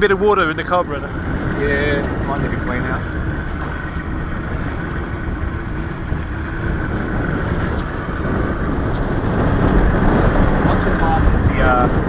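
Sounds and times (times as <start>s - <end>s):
boat wake rushing: 0.0s - 12.0s
outboard motor running: 0.0s - 12.0s
wind buffeting microphone: 0.0s - 12.0s.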